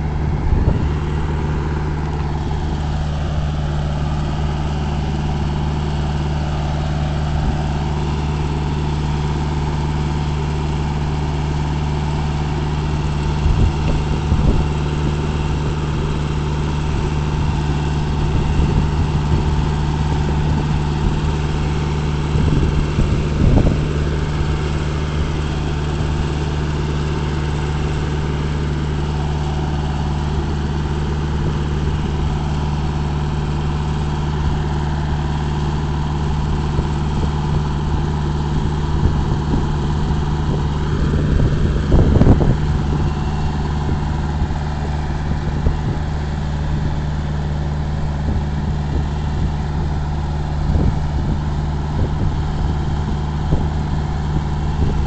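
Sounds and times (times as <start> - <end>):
vehicle engine droning: 0.0 - 55.0.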